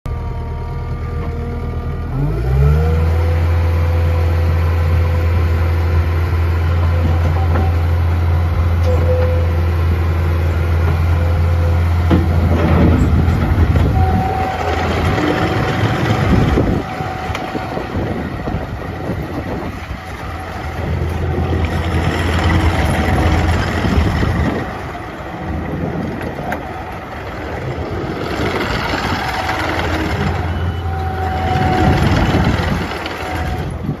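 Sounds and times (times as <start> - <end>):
diesel engine running: 0.1 - 34.0.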